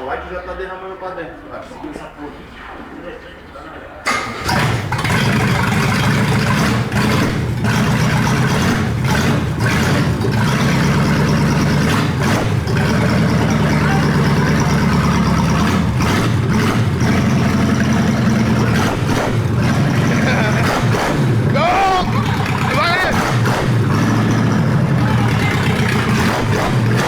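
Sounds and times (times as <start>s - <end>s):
car engine running loudly: 4.1s - 27.0s.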